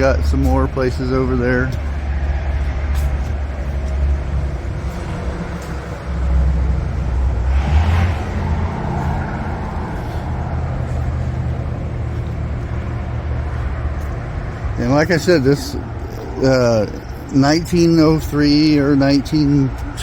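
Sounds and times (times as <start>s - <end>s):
car passing: 0.0s - 20.0s
steady low traffic rumble: 0.0s - 20.0s.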